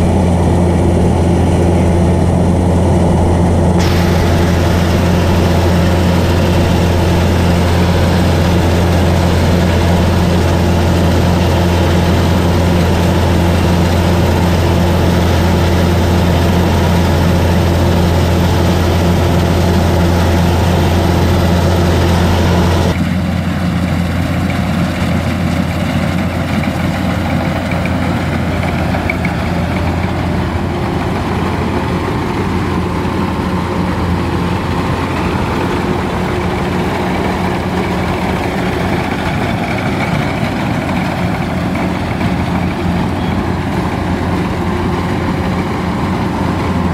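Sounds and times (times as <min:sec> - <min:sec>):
combine harvester diesel engine: 0:00.0 - 0:46.9.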